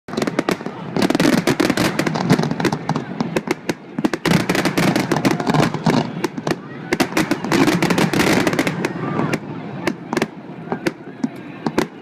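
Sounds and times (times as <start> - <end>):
fireworks crackling and banging: 0.1 - 12.0.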